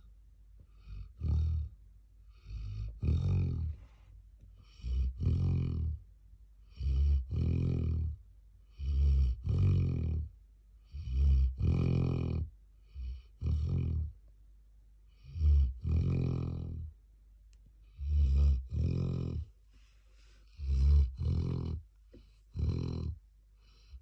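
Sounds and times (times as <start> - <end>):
dog snoring: 0.7 - 4.0, 4.6 - 6.0, 6.6 - 14.2, 15.1 - 16.9, 17.9 - 19.6, 20.4 - 24.0.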